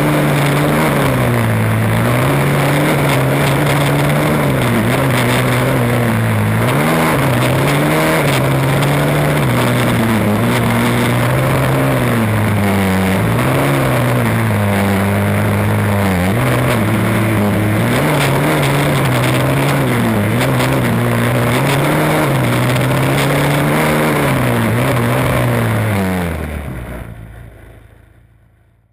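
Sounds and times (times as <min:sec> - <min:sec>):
race car engine revving: 0:00.0 - 0:27.2.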